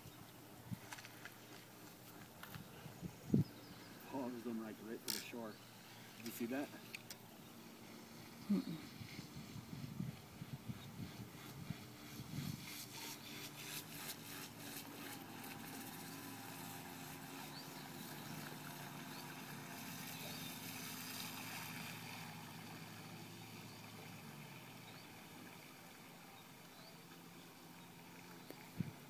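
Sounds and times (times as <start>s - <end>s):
model boat motor running: 3.9s - 29.0s.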